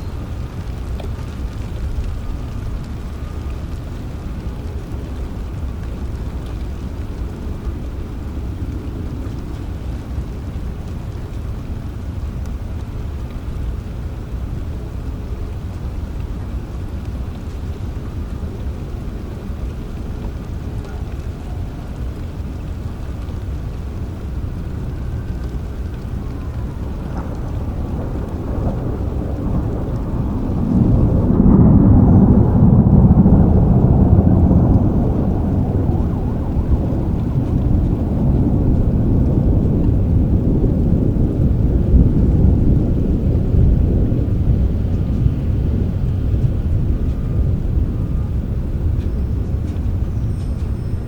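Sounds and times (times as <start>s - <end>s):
rolling thunder: 0.0s - 51.0s
steady rain: 0.0s - 51.0s.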